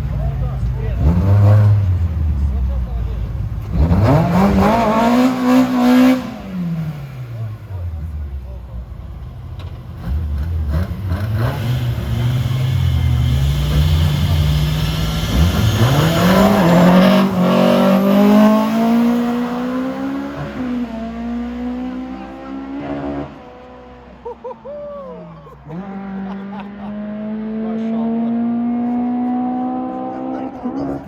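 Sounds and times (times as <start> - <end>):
car engine at full throttle: 0.0 - 24.5, 25.1 - 31.0.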